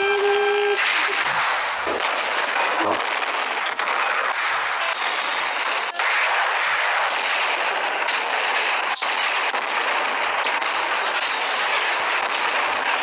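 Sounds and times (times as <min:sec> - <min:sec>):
cartoon explosion blast: 0:00.0 - 0:13.0.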